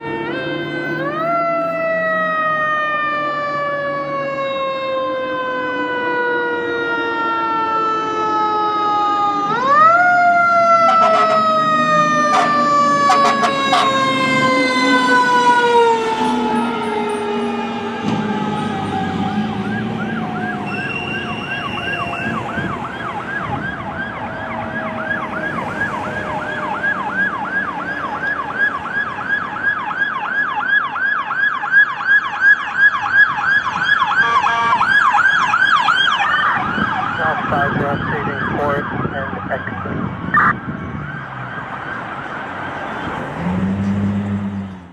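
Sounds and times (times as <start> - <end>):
siren winding down: 0.0 - 43.3
electronic yelp siren: 0.0 - 43.4.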